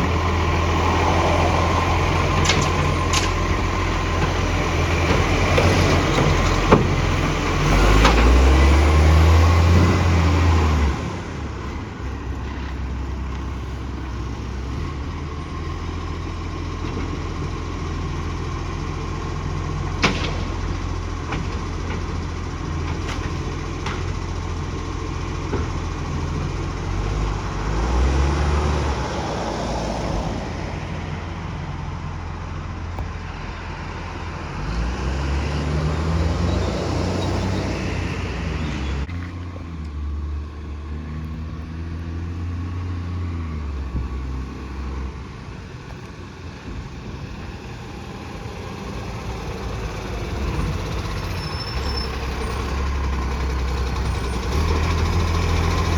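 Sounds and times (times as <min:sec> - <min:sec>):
diesel engine low rumble: 0:00.0 - 0:55.9.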